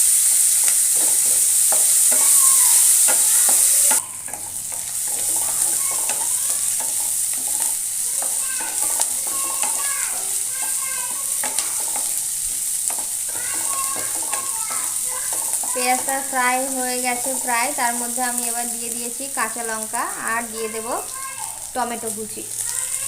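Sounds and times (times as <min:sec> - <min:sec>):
onions sizzling in a pan: 0:00.0 - 0:23.0
utensil clicking against pan: 0:00.2 - 0:18.8.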